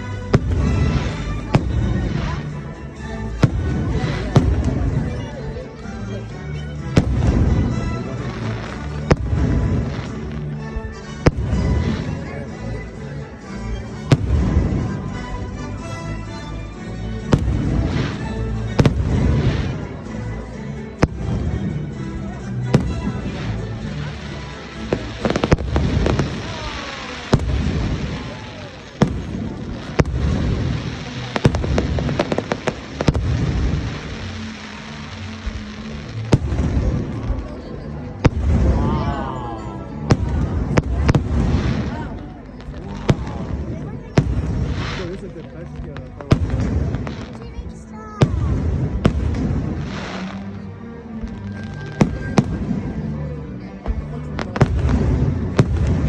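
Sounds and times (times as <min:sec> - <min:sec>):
fireworks booming: 0:00.0 - 0:05.7, 0:06.9 - 0:12.4, 0:13.9 - 0:16.5, 0:17.2 - 0:20.1, 0:21.0 - 0:22.0, 0:22.6 - 0:39.3, 0:40.0 - 0:45.2, 0:45.8 - 0:50.6, 0:54.3 - 0:56.0
orchestral music: 0:00.0 - 0:56.0.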